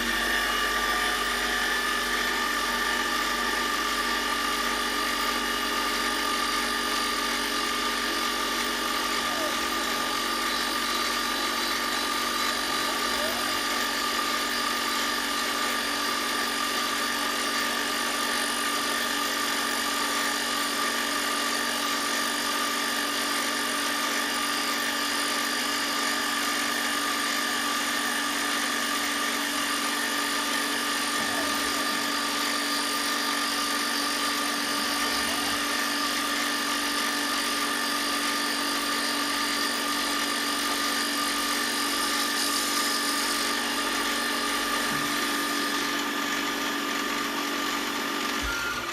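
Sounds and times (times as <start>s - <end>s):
power tool motor whining: 0.0s - 48.9s.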